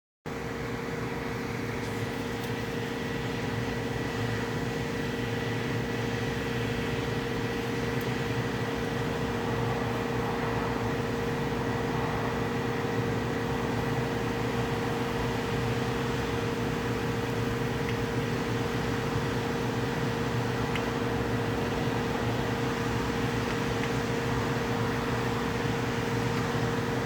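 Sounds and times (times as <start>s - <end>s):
steady machine hum: 0.3s - 27.0s.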